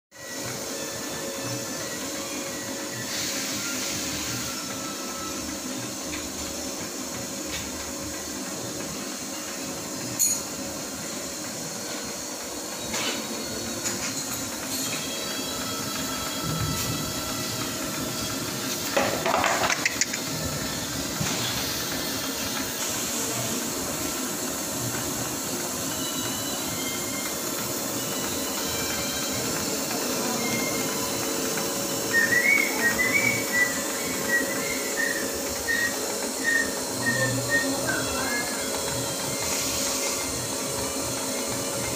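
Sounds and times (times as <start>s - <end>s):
machine hiss: 0.2s - 41.9s
machine motor hum: 0.2s - 41.9s.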